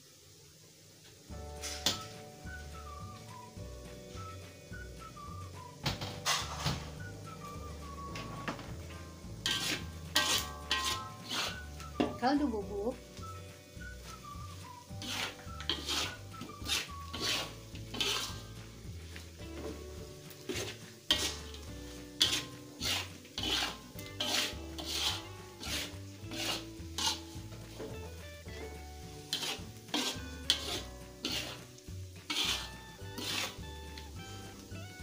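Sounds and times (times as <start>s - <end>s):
background music: 1.3s - 35.0s
metal spatula scraping a wok: 1.6s - 2.5s, 5.9s - 12.2s, 13.0s - 35.0s.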